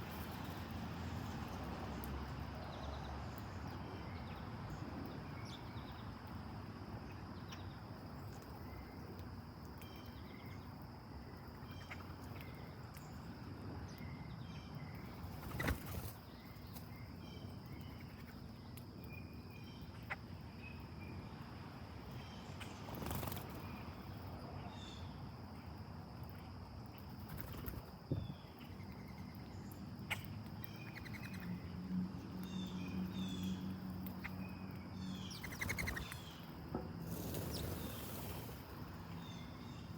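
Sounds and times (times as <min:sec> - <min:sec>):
steady outdoor hiss: 0:00.0 - 0:39.9
small birds chirping: 0:00.1 - 0:39.9.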